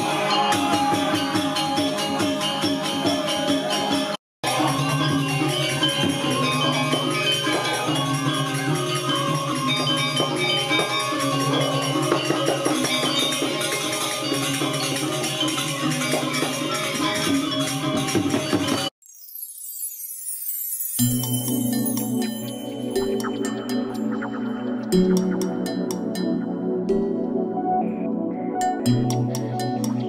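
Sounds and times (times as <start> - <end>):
gamelan ensemble playing: 0.0 - 18.9, 20.5 - 30.0.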